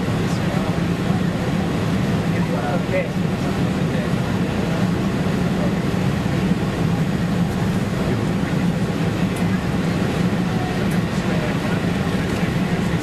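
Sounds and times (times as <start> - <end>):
airplane cabin engine noise: 0.0 - 13.0.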